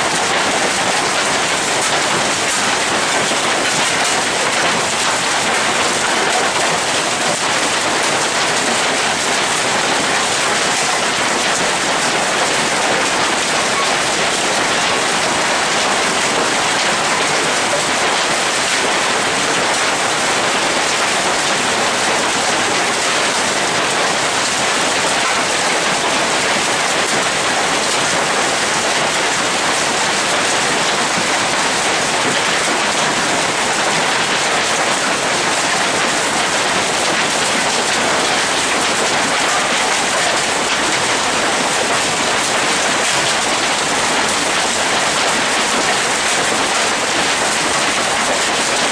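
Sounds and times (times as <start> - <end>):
hail and heavy rain pelting: 0.0 - 48.9.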